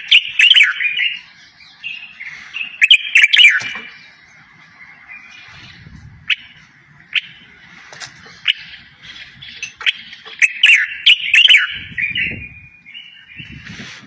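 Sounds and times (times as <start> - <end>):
songbird chirps and trills: 0.0 - 14.0.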